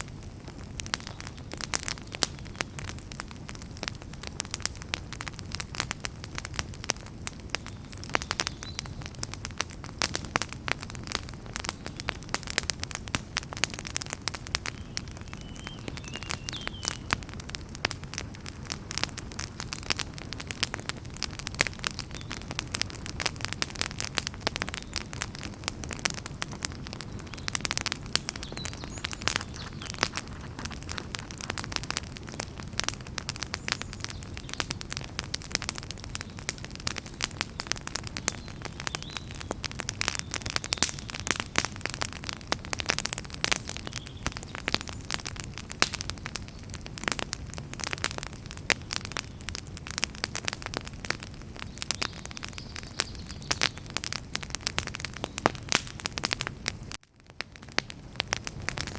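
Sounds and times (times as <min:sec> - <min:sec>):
low rumble of flames: 0:00.0 - 0:58.9
wood crackling and popping: 0:00.0 - 0:58.9.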